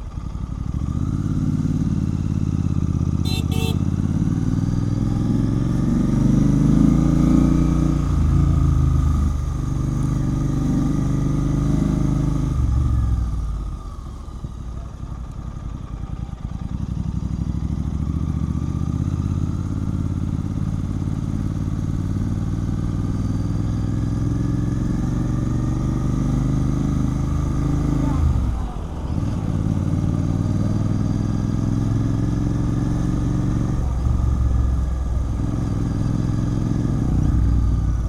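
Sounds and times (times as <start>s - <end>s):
motorcycle engine while riding: 0.0s - 38.0s.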